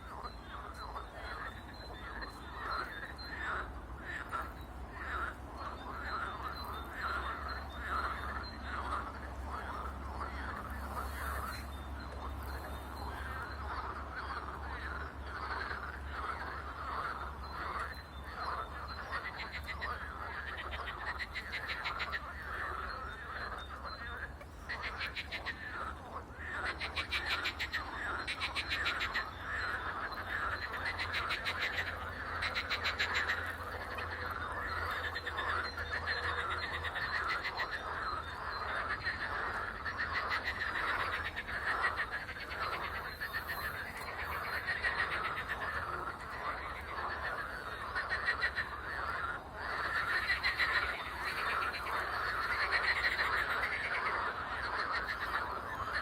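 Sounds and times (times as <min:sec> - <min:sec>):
frogs croaking: 0:00.0 - 0:56.0
rattling frog trills: 0:00.1 - 0:56.0.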